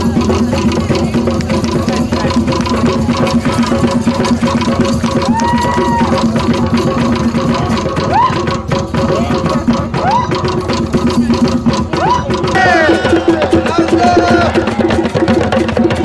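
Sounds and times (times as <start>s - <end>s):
fast drumming and percussion: 0.0s - 16.0s.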